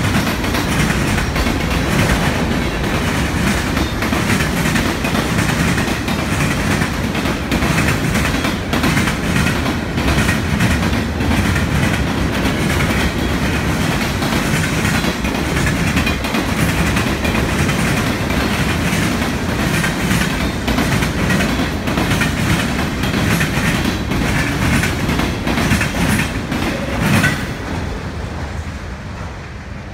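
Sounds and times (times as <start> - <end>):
train wheels clattering over rail joints: 0.0 - 27.9.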